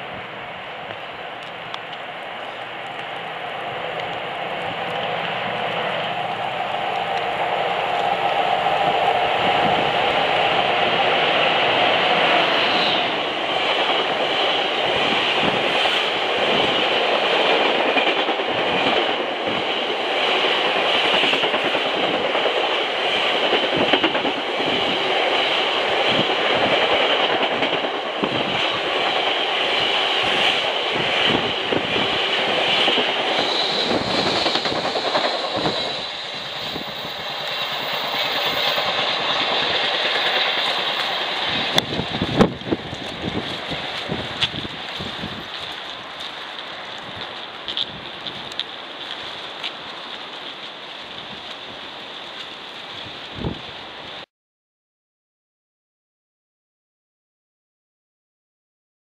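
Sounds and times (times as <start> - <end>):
rolling rumble of train wheels: 0.0 - 54.2.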